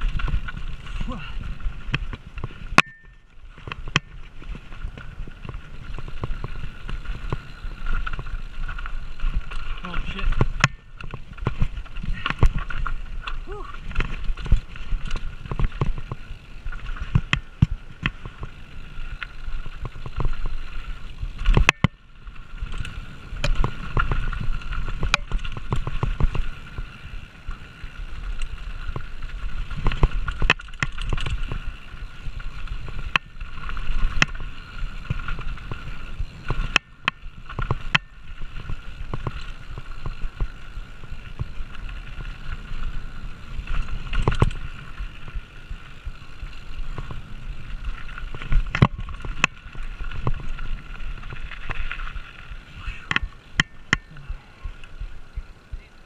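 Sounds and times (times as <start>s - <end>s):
bike rattling and knocking: 0.0s - 55.8s
tyres rumbling over dirt and rock: 0.0s - 55.8s.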